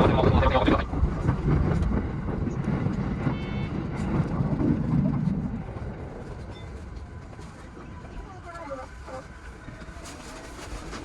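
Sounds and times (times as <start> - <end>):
electric train low rumble: 0.0 - 11.0.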